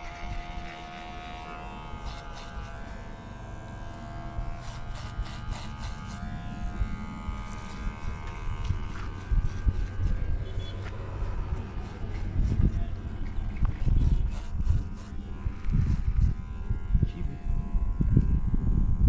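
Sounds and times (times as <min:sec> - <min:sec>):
electric hair clipper buzzing: 0:00.0 - 0:19.0.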